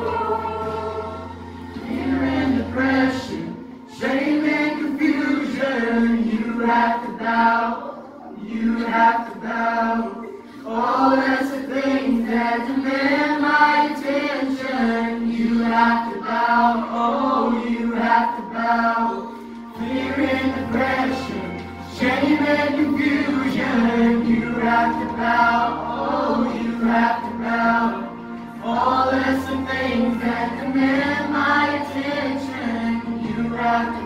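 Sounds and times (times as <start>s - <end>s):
choir singing worship song: 0.0s - 34.0s.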